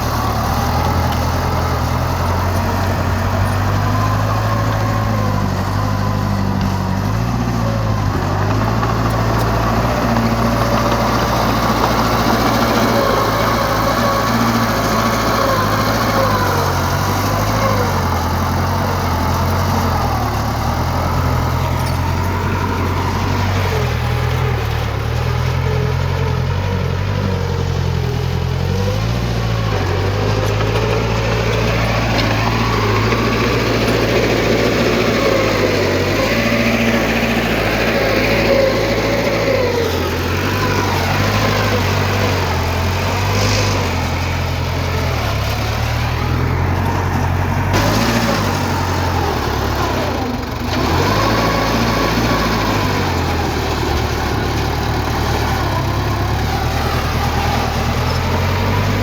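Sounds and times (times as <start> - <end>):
diesel machine engine under load: 0.0 - 59.0.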